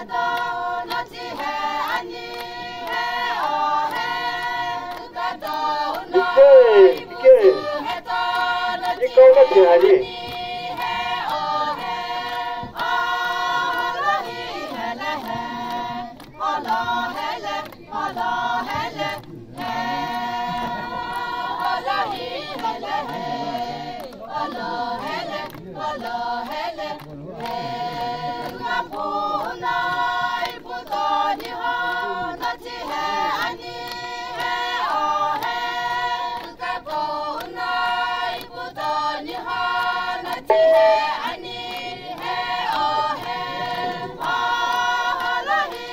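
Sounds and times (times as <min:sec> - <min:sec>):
women singing a folk song: 0:00.0 - 0:45.9.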